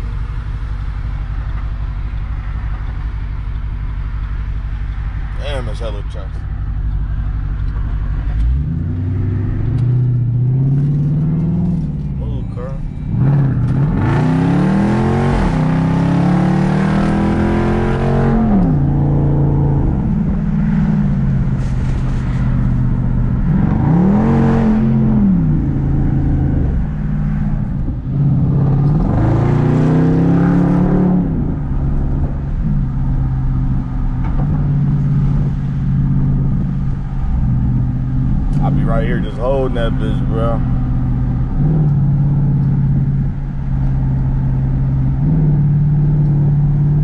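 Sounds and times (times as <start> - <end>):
loud vee eight exhaust driving: 0.0 - 47.0.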